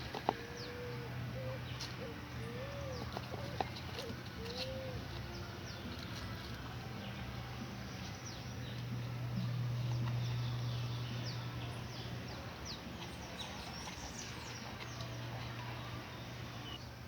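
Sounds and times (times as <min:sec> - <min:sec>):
birds chirping: 0:00.0 - 0:16.9
steady low hum: 0:00.0 - 0:17.0.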